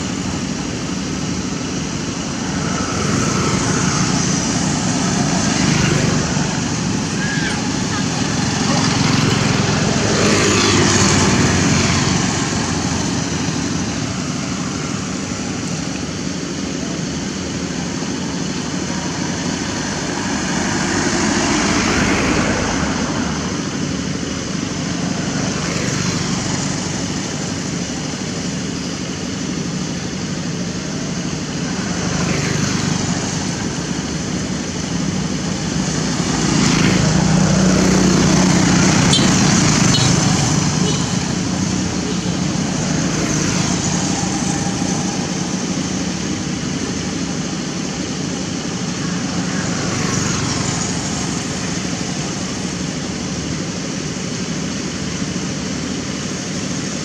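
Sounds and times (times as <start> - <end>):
motorbikes passing: 0.0 - 57.0
traffic noise: 0.0 - 57.0.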